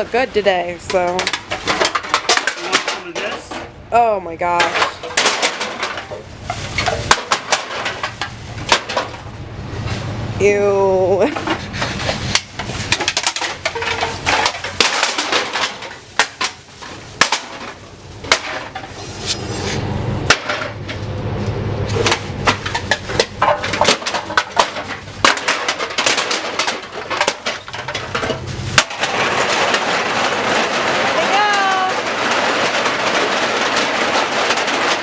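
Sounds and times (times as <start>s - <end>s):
aluminium cans clattering: 0.0s - 3.8s, 4.4s - 9.3s, 11.2s - 21.0s, 21.9s - 35.0s.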